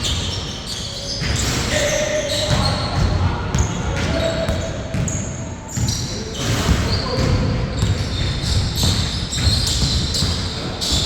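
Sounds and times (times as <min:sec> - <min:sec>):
sneaker squeaks: 0:00.0 - 0:11.0
basketball bouncing on court: 0:01.2 - 0:01.6, 0:02.4 - 0:11.0.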